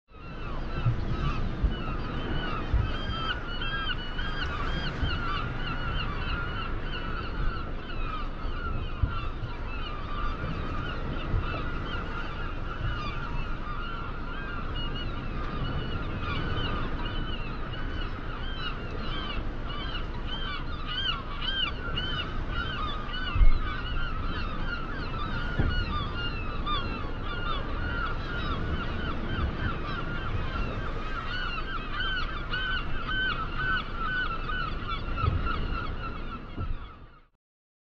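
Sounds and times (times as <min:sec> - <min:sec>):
wind on microphone: 0:00.1 - 0:37.3
flock of birds honking: 0:00.2 - 0:37.2.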